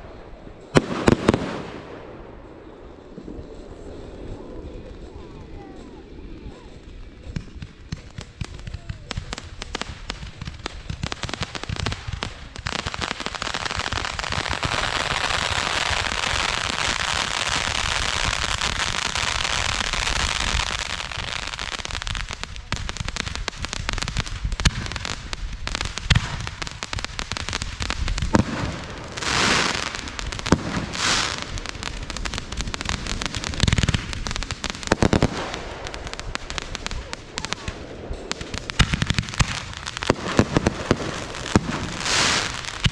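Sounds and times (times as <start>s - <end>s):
fireworks bangs and pops: 0.0s - 42.9s
fireworks crackling: 0.0s - 42.9s
fireworks hissing: 0.6s - 42.9s.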